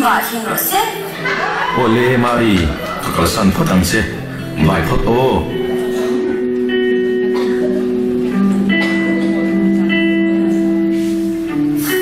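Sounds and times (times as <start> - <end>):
slow plucked string music: 2.3 - 12.0.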